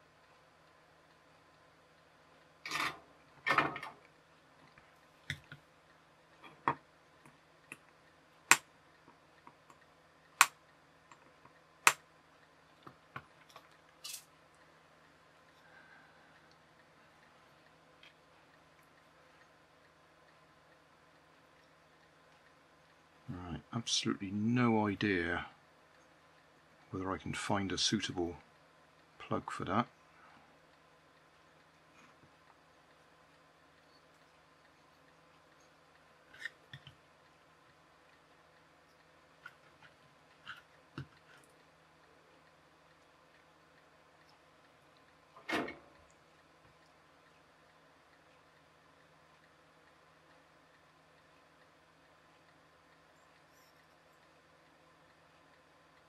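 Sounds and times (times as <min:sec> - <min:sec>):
faint hum: 0:00.0 - 0:56.0.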